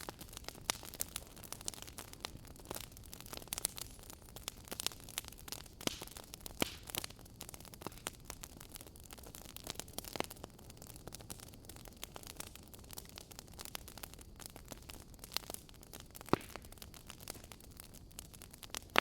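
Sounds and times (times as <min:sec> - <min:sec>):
soft fire hiss: 0:00.0 - 0:19.0
wood fire crackling and popping: 0:00.0 - 0:19.0.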